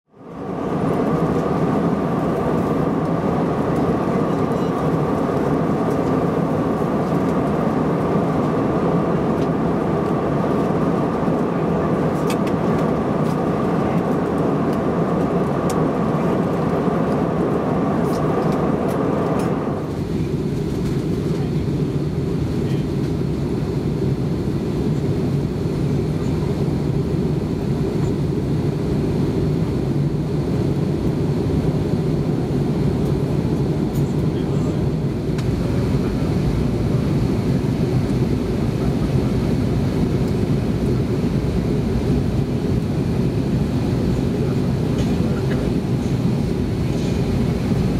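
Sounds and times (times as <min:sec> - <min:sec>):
airliner cabin engine drone: 0:00.1 - 0:47.9
deep dull rumble: 0:00.2 - 0:47.9.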